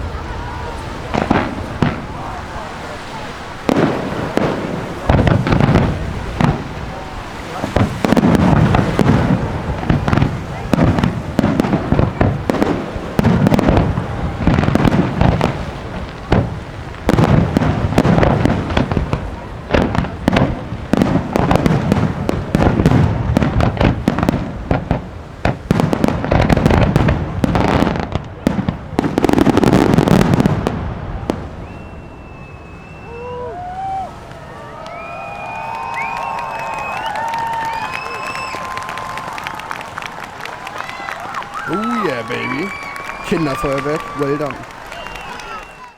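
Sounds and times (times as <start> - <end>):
fireworks booming and cracking: 0.0 - 45.7.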